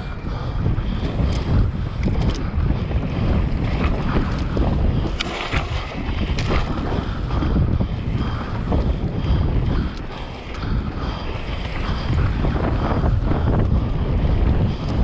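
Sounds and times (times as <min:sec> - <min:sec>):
wind rushing over microphone: 0:00.0 - 0:15.0
bike rattles and knocks: 0:01.0 - 0:15.0.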